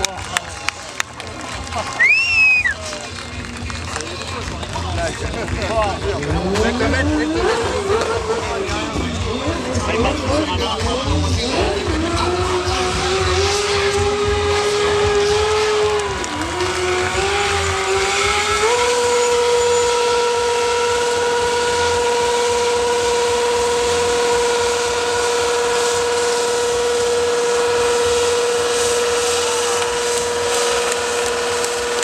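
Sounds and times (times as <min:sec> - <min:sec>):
motorcycle engine revving: 0:02.9 - 0:32.0.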